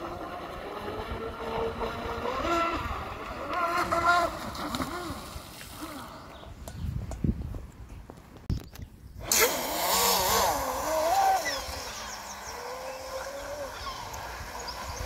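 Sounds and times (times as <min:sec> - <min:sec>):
model boat motor whining: 0:00.0 - 0:06.3, 0:09.2 - 0:15.0.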